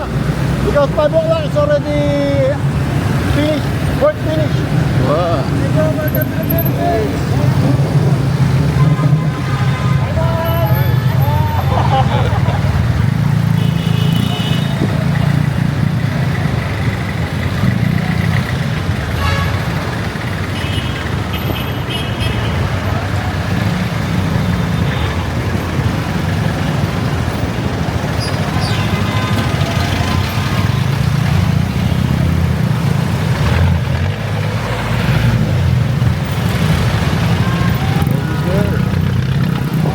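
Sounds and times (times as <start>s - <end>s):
road and wind noise: 0.0s - 39.9s
surrounding traffic: 0.0s - 39.9s.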